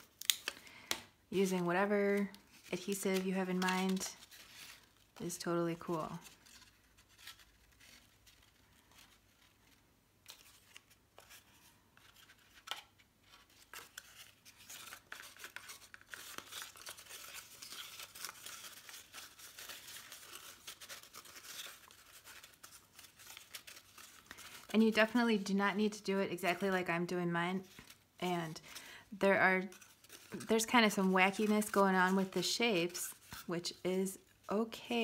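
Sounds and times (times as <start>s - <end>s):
paper rustling and crinkling: 0.0s - 0.6s, 1.6s - 26.8s, 27.5s - 35.0s.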